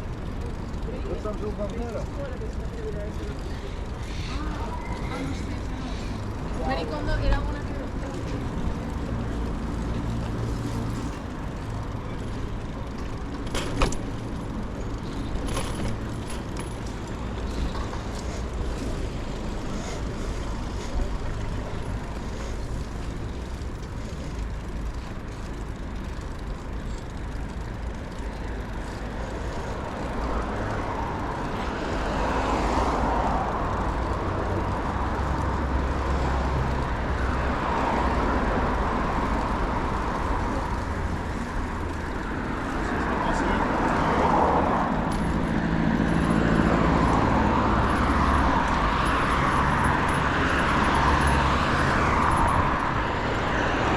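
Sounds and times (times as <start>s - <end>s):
cars passing: 0.0s - 53.9s.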